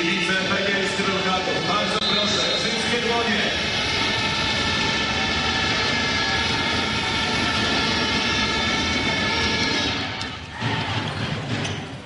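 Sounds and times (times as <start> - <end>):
arena crowd din: 0.0 - 12.0.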